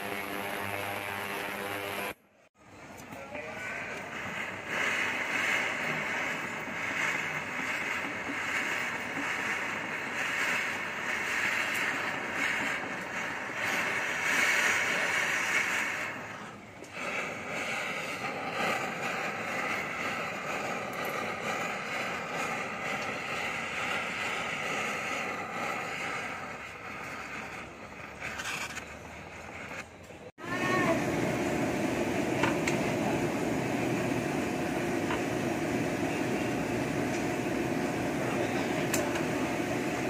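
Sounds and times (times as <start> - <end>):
gas torch flame hissing: 0.0 - 2.2, 2.9 - 40.0.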